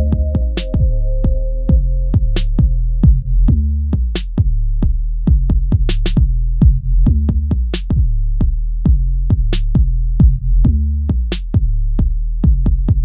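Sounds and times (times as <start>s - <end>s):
deep bass line: 0.0s - 13.0s
hip hop beat: 0.0s - 13.0s.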